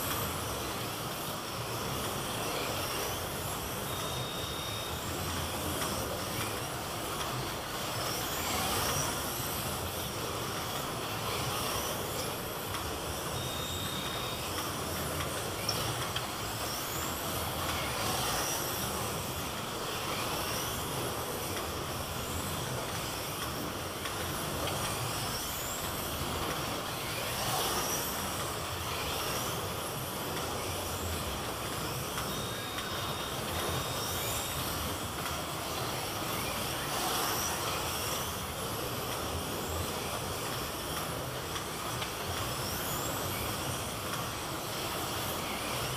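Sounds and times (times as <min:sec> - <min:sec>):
slot car motors whining: 0:00.0 - 0:45.9.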